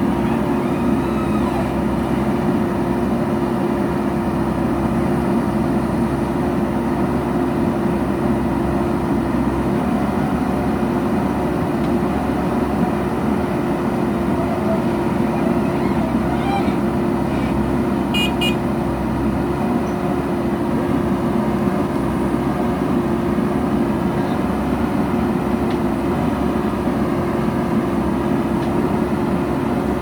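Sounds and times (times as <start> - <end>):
diesel engine running steadily: 0.0 - 30.0.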